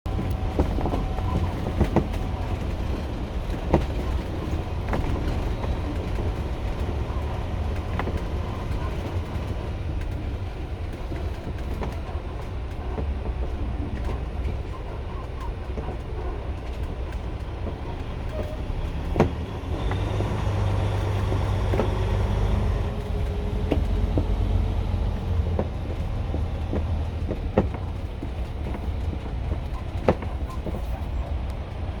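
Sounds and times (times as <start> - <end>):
vehicle low rumble: 0.0 - 32.0.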